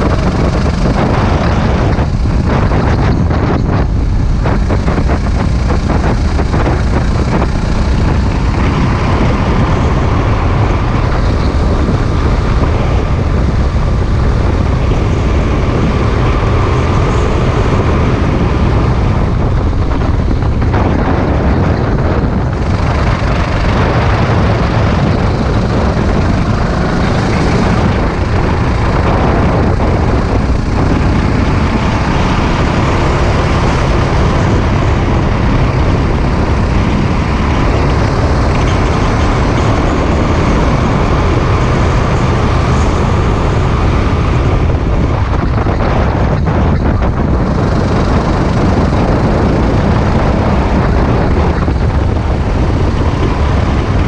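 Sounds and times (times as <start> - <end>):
kart engine racing: 0.0 - 54.0
road rumble: 0.0 - 54.0
wind over microphone: 0.0 - 54.0.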